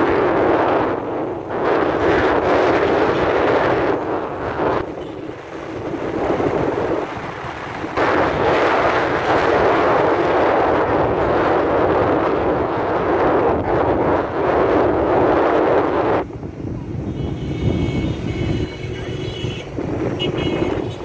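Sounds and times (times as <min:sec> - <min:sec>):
motorbike road noise: 0:00.0 - 0:21.0
wind rushing over microphone: 0:00.0 - 0:21.0.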